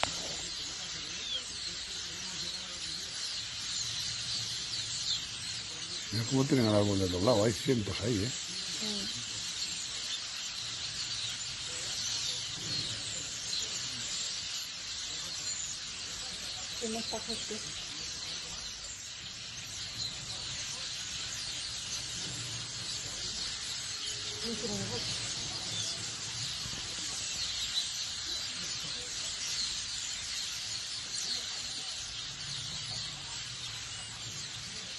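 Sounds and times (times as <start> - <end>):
starlings chirping and squeaking: 0.0 - 34.9.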